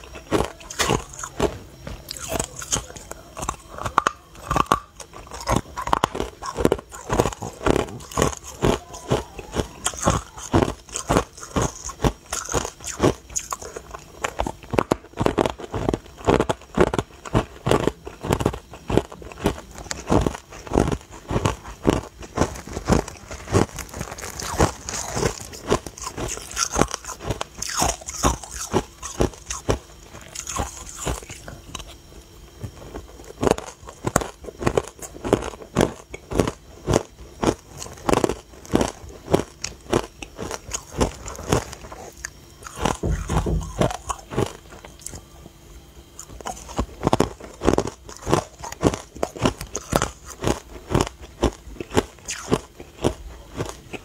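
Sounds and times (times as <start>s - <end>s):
ice cubes crunching in mouth: 0.0s - 32.0s, 33.0s - 45.2s, 46.2s - 54.0s.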